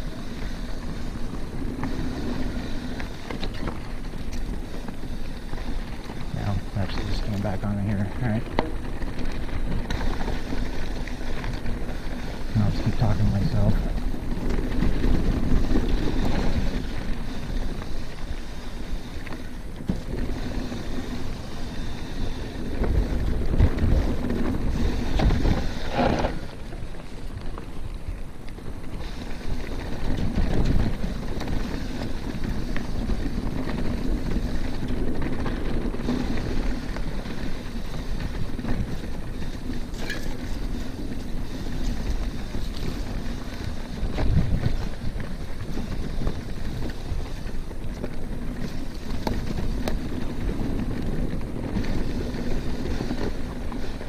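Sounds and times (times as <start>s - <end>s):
tyres rolling on dirt and rocks: 0.0s - 54.0s
wind buffeting microphone: 0.0s - 54.0s.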